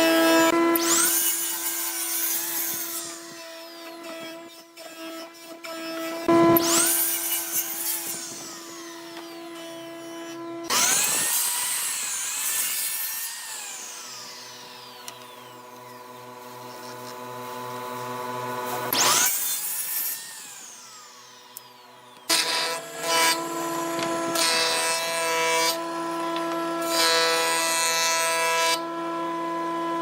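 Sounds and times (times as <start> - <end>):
turning tool cutting wood: 0.0 - 29.2
wood lathe humming: 0.0 - 29.8.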